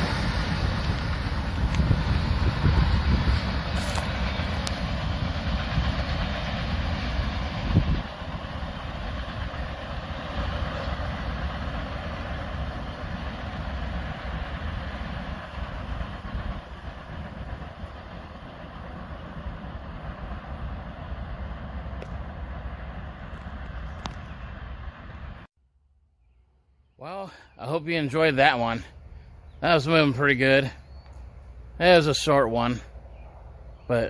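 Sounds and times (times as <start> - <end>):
freight train rumbling past: 0.0 - 25.5, 27.0 - 34.0.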